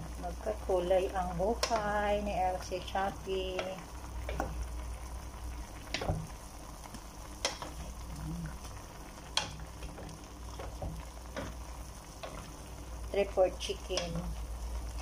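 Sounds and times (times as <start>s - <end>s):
stew hissing and bubbling: 1.2s - 15.0s.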